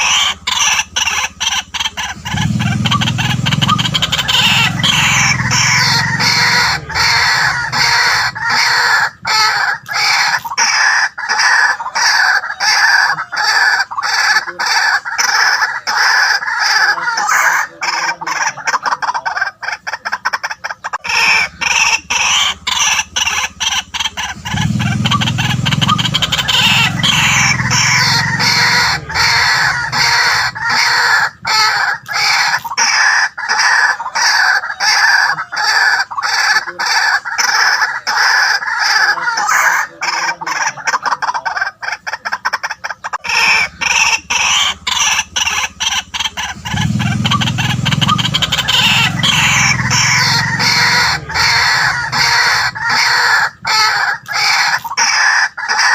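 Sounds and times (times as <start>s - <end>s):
bird harsh repeated calls: 0.0s - 55.9s.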